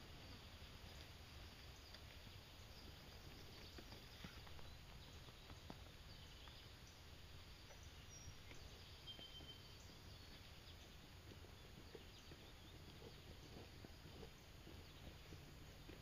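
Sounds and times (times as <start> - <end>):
faint ticks: 0.2 - 16.0.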